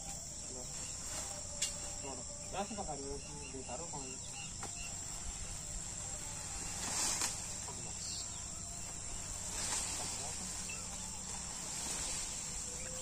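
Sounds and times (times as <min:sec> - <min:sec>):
crickets chirring: 0:00.0 - 0:13.0
leafy stalks rustling: 0:00.0 - 0:13.0.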